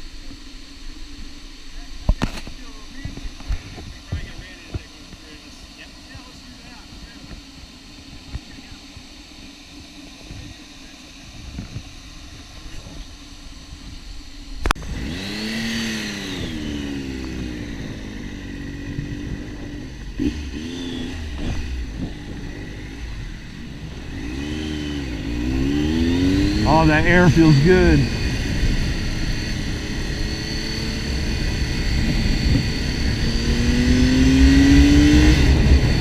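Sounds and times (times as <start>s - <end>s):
motorcycle engine revving: 0.0s - 36.0s
wind and road noise: 6.8s - 36.0s.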